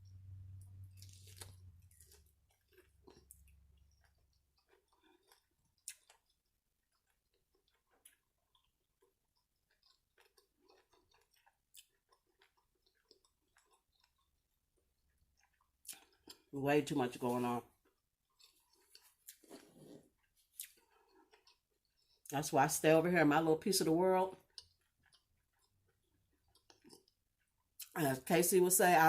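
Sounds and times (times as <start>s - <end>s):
chewing with small crunches: 0.0s - 16.6s, 17.2s - 22.5s, 24.2s - 28.0s.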